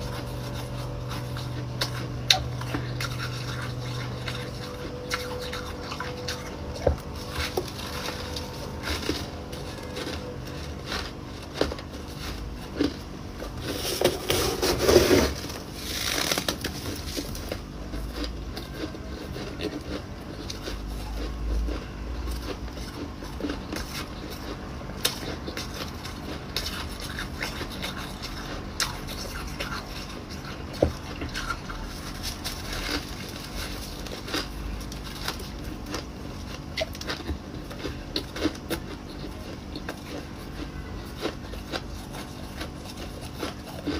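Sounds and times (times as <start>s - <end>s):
ice being chewed: 0.0s - 43.9s.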